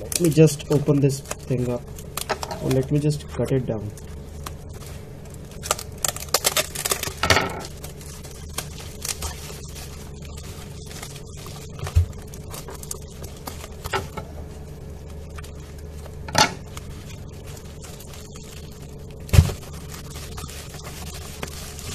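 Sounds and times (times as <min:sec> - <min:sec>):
sharp crackle: 0:00.0 - 0:02.9, 0:03.9 - 0:21.9
bubble wrap crinkling: 0:00.0 - 0:21.9.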